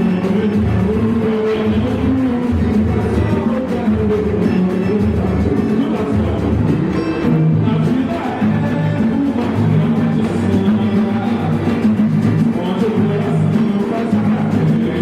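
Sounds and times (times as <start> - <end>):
drums and percussion: 0.0 - 15.0
live band playing: 0.0 - 15.0.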